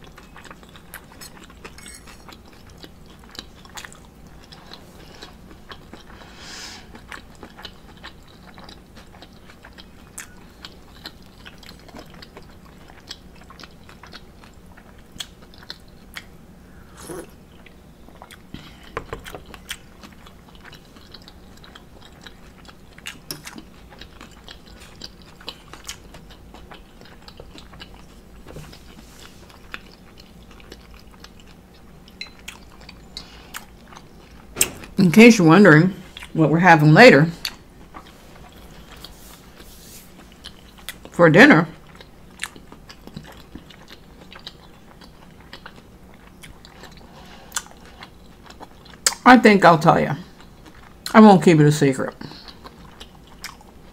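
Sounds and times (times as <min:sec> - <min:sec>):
chewing with wet mouth sounds: 0:00.0 - 0:35.0, 0:35.9 - 0:36.5, 0:37.2 - 0:49.6, 0:50.2 - 0:51.2, 0:52.1 - 0:53.9
low steady hum: 0:00.0 - 0:53.9.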